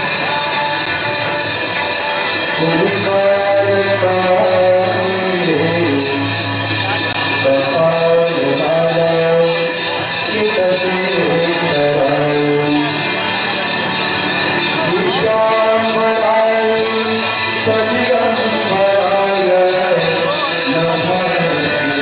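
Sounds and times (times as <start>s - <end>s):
jingling percussion: 0.0s - 22.0s.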